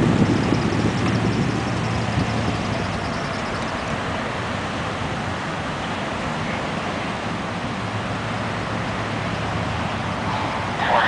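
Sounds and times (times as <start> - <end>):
emergency vehicles idling: 0.0 - 11.0
traffic: 0.0 - 11.0.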